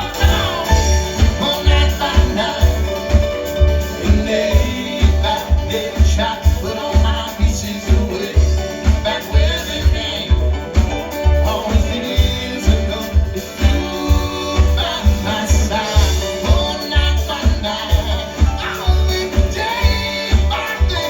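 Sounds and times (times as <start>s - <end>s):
drums and bass guitar beat: 0.0s - 21.0s
guitar and keyboard chords: 0.0s - 21.0s.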